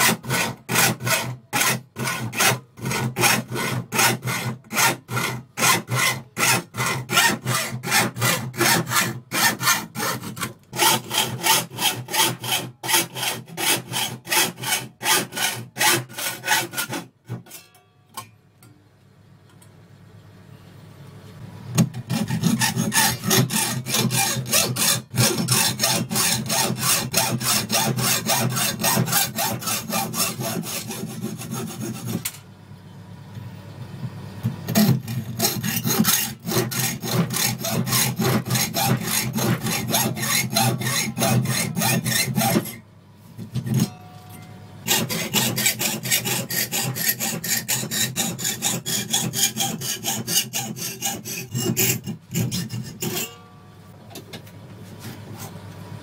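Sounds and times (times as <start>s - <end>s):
hacksaw cutting through steel: 0.0s - 17.7s, 21.9s - 32.4s, 34.7s - 42.8s, 43.6s - 44.0s, 44.8s - 53.4s.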